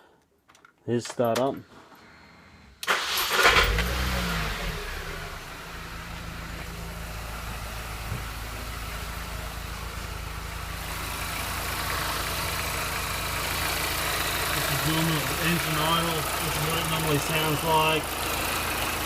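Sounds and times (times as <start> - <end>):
car engine idling: 2.0 - 19.0.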